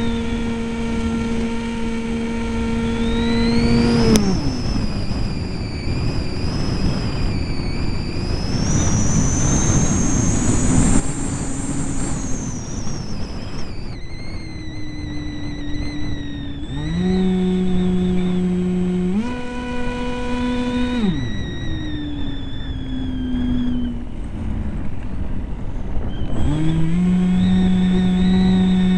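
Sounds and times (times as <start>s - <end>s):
electric motor and propeller whining: 0.0s - 28.9s
wind rushing over microphone: 0.0s - 28.9s.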